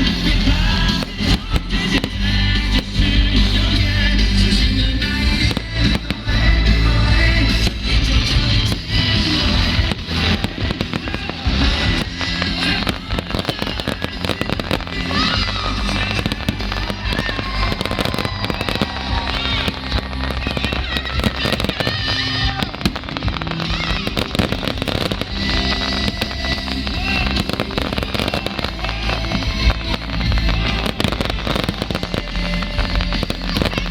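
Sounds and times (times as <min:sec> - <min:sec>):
crowd voices: 0:00.0 - 0:33.9
fireworks bangs and crackles: 0:00.0 - 0:33.9
music playing: 0:00.0 - 0:33.9.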